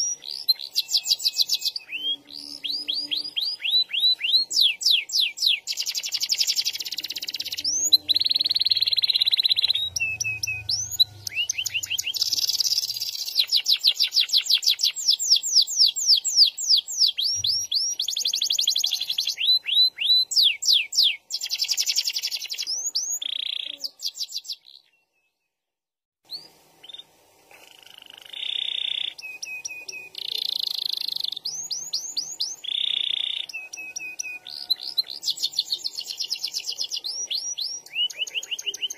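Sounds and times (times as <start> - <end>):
canary singing trills: 0.0 - 25.3, 26.3 - 38.9.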